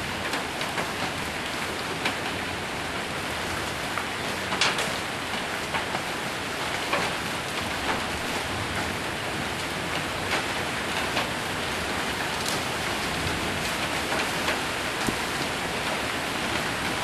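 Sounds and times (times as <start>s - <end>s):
heavy rain with hail on a roof: 0.0s - 17.0s.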